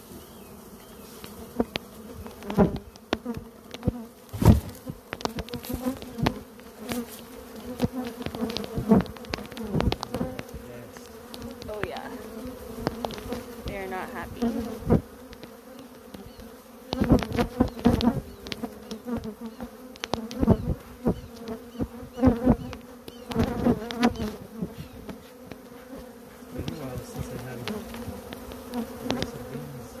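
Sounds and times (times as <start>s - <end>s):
bees buzzing: 0.0s - 30.0s
sharp thumps and crackles: 1.2s - 12.1s, 12.7s - 19.3s, 20.0s - 25.8s, 26.5s - 29.4s.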